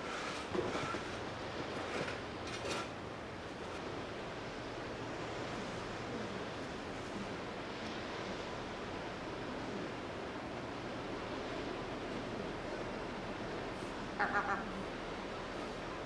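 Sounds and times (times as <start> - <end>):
rushing outdoor background noise: 0.0 - 16.0.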